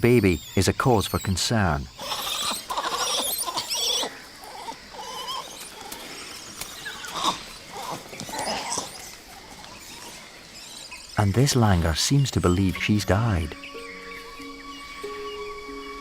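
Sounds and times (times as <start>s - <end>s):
monkeys squealing: 0.0s - 14.0s.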